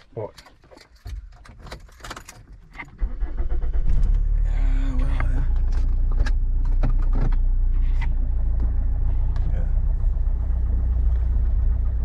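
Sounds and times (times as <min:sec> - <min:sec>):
car engine starting and idling: 0:00.2 - 0:12.0.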